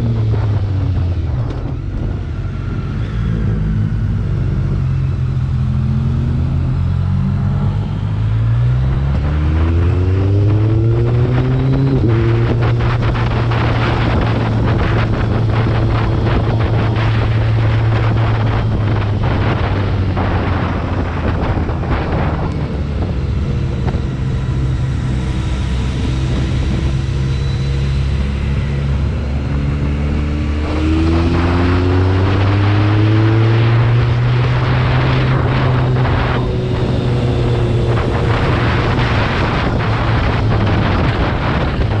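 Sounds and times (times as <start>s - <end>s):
motorcycle engine accelerating: 0.0s - 42.0s
wind rushing over microphone: 0.0s - 42.0s.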